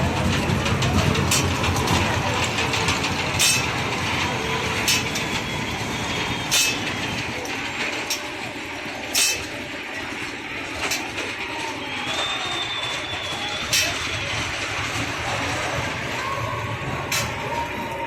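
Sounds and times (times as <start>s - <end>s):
sharp train track clack: 0.0s - 18.0s
toy train ride rumbling: 0.0s - 18.0s.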